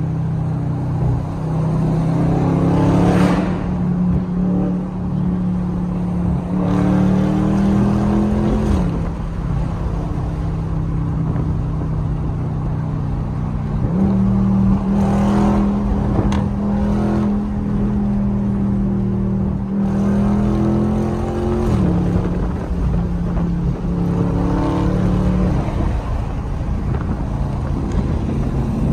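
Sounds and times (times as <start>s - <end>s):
car engine revving under load: 0.0s - 28.9s.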